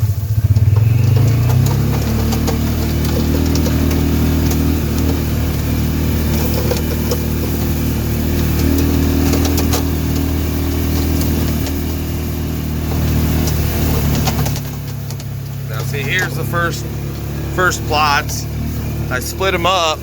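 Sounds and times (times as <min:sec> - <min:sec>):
vehicle engine running: 0:00.0 - 0:20.0
clicks and rattles: 0:00.5 - 0:19.1.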